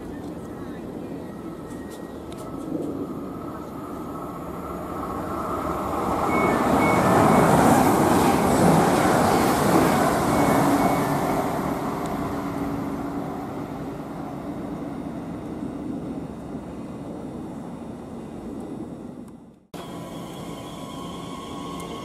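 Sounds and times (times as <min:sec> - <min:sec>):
electric train running past: 0:00.0 - 0:19.2, 0:19.8 - 0:22.0.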